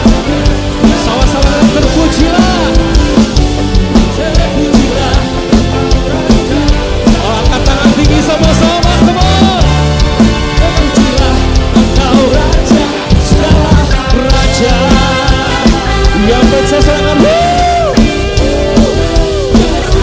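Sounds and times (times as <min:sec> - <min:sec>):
drum kit beat: 0:00.0 - 0:20.0
rock band playing: 0:00.0 - 0:20.0.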